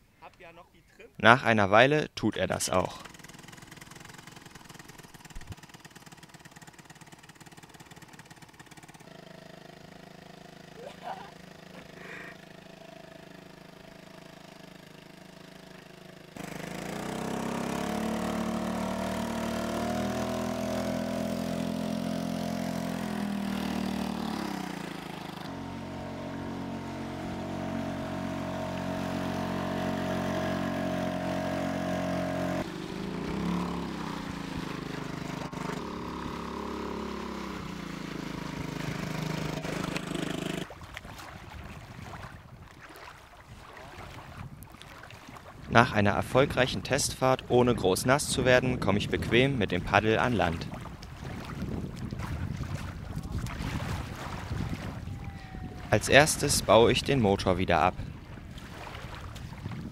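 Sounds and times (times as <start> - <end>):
outboard motor running: 2.5 - 59.9.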